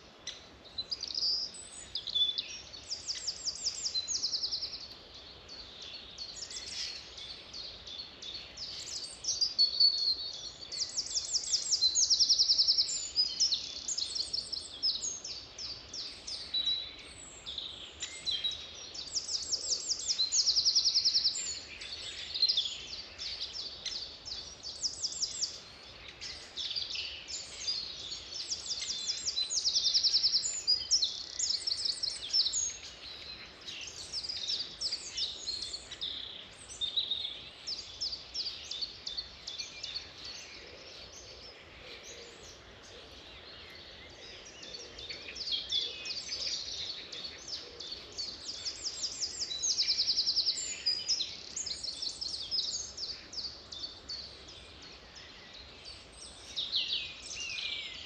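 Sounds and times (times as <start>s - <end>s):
faint background hiss: 0.0s - 58.0s
birds singing and chirping: 0.2s - 58.0s.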